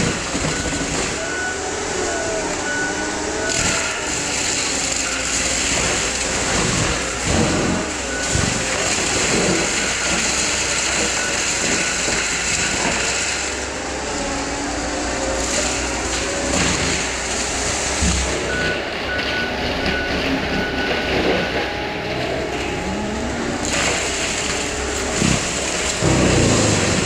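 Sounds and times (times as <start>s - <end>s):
mulching machine engine running: 0.0s - 27.0s.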